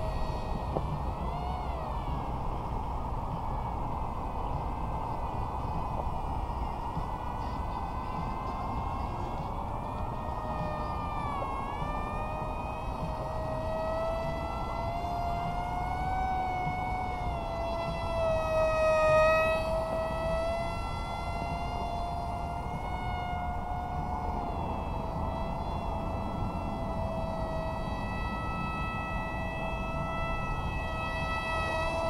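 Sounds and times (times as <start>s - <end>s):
model plane propeller whining: 0.0s - 32.0s.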